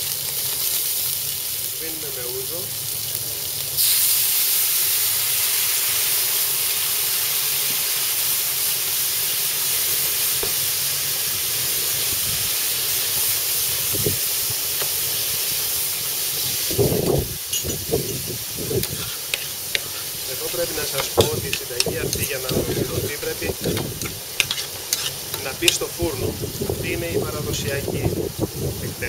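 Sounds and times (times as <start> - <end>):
shrimp sizzling in a pan: 0.0 - 29.0
spirit boiling off hiss: 0.0 - 29.0.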